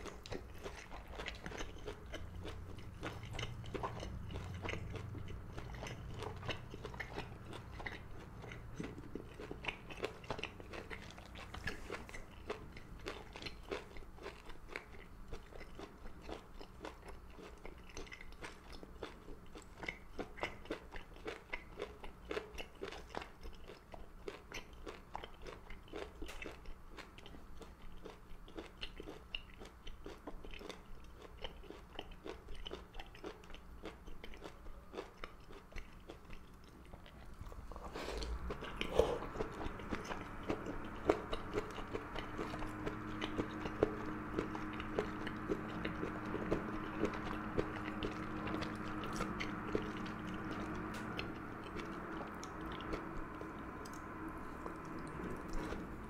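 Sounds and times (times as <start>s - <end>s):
chewing crunchy seaweed: 0.0s - 56.0s.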